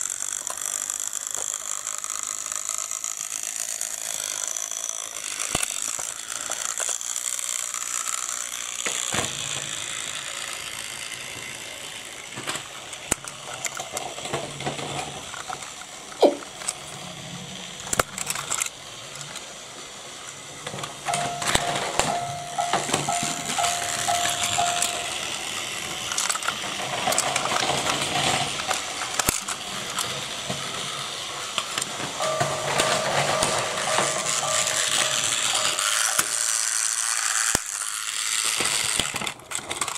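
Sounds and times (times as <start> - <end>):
plastic gears clattering: 0.0 - 17.1, 17.7 - 19.6, 20.3 - 39.9
plastic toys clicking and knocking: 0.0 - 17.1, 17.8 - 39.9
toy train motors whirring: 0.0 - 39.9.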